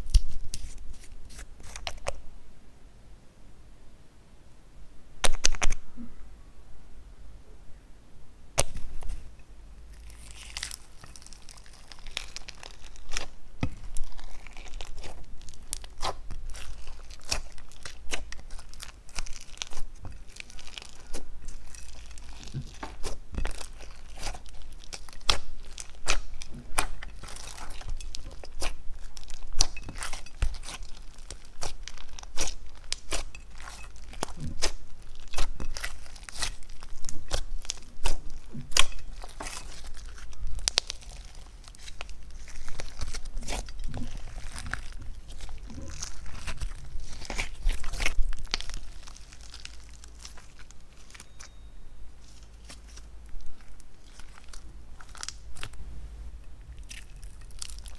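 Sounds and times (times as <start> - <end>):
slime crackling and crunching: 9.9 - 55.8, 56.6 - 57.9.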